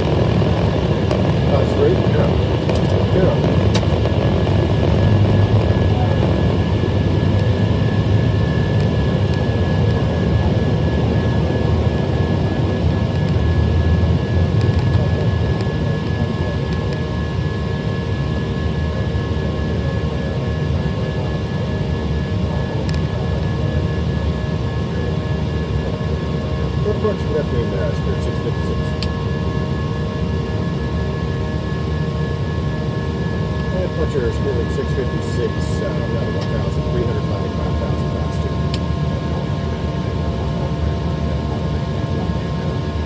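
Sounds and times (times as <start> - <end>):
jet engines roaring in cabin: 0.0 - 43.0
thin high engine whine: 0.0 - 43.0.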